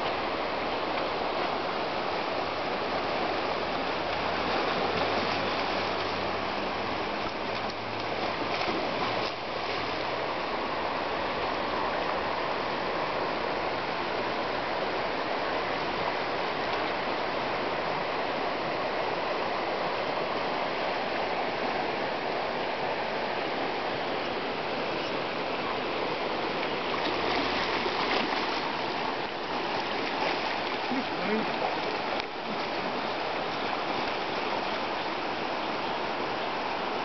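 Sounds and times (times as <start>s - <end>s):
river water flowing: 0.0s - 37.0s.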